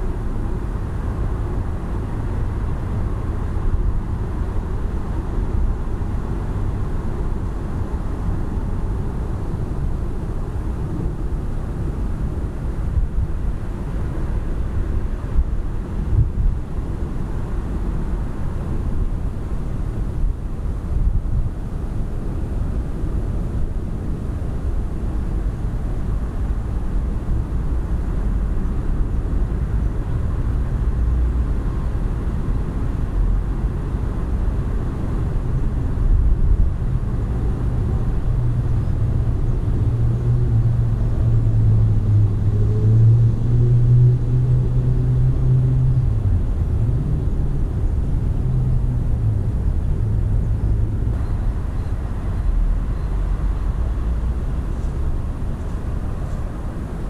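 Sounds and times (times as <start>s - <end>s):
engine rumble: 0.0s - 57.0s.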